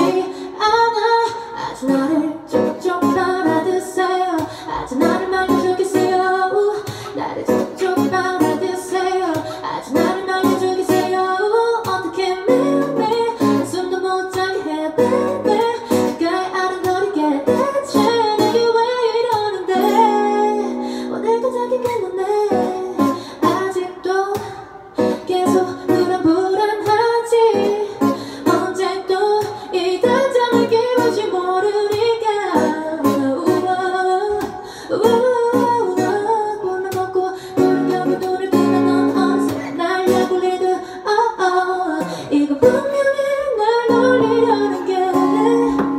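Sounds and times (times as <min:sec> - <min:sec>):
acoustic guitar: 0:00.0 - 0:45.9
woman singing: 0:00.0 - 0:45.9.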